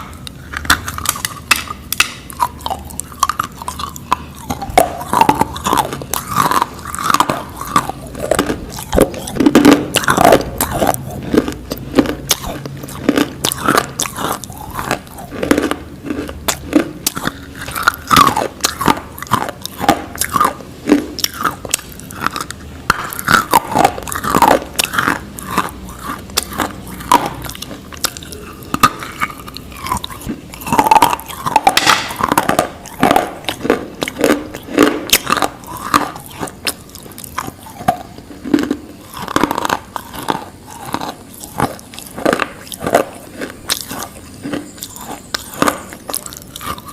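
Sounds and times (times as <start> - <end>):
crunchy biting and chewing: 0.0 - 46.9.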